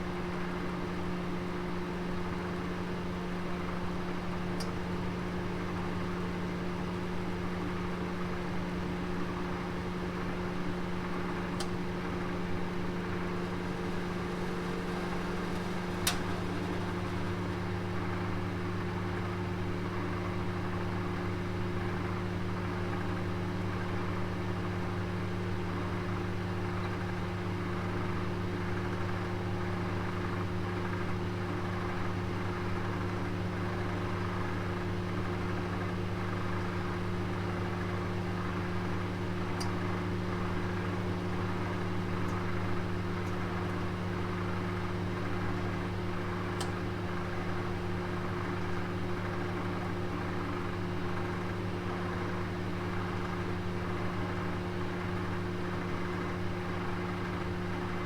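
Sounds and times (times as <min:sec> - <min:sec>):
oven humming: 0:00.1 - 0:33.6, 0:34.2 - 0:58.0.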